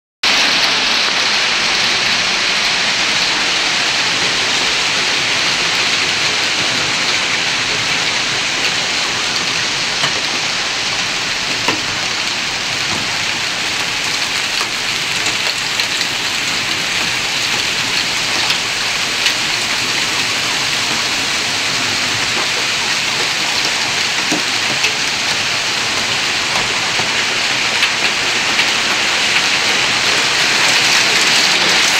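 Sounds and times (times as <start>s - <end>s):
hail pelting the ground: 0.2s - 31.9s.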